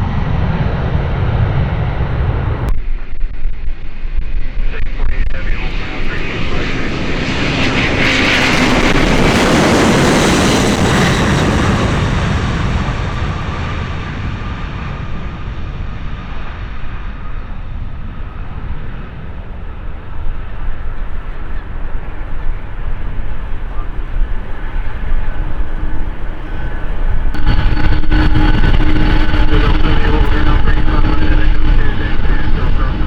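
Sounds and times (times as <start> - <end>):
jet airliner taking off: 0.0 - 2.7, 4.0 - 33.0.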